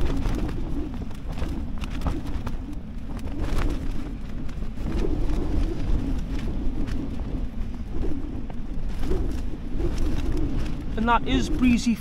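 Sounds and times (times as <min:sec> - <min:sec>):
strong wind gusting against tent: 0:00.0 - 0:12.0.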